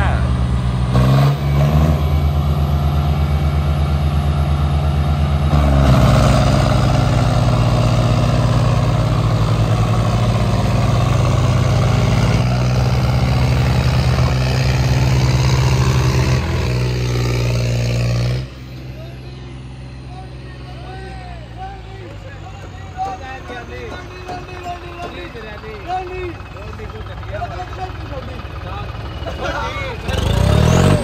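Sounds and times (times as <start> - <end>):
diesel tractor engines at full throttle: 0.0 - 31.0.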